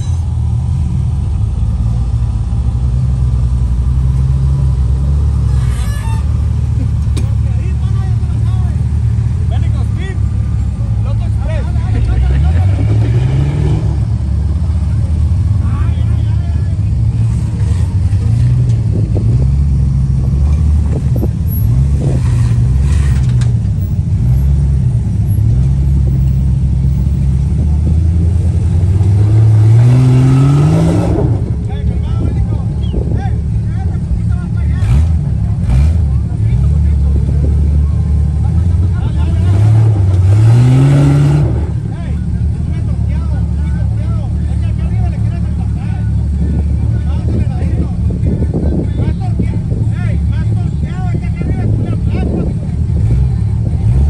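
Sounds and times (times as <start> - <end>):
motor vehicle rumble: 0.0 - 54.0.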